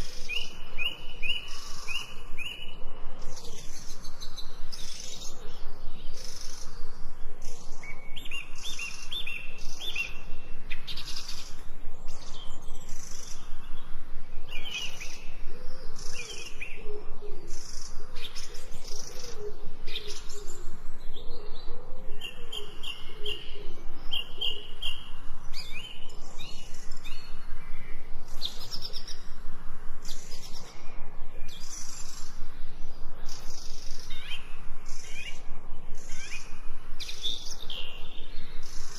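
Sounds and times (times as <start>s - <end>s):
birds chirping and trilling: 0.0s - 38.9s
steady background hiss: 0.0s - 38.9s.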